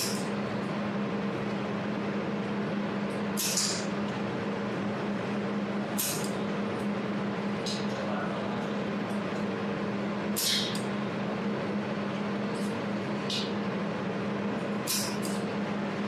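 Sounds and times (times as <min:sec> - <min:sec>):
welding machine humming: 0:00.0 - 0:08.0, 0:08.7 - 0:16.0.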